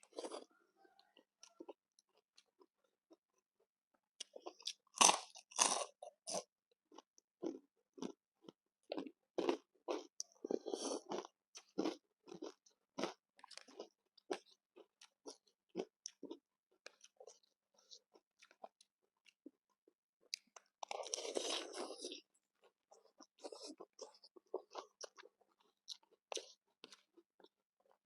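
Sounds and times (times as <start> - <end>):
person chewing crunchy food: 0.0 - 3.4, 4.2 - 28.0.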